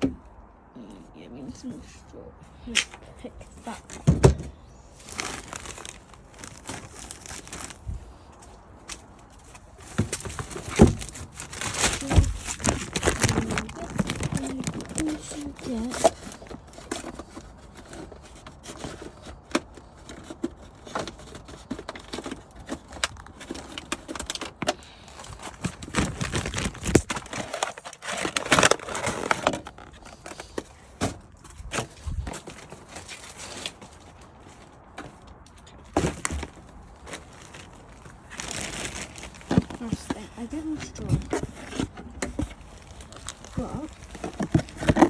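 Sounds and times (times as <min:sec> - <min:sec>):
straw rustling and crackling: 0:02.6 - 0:45.0.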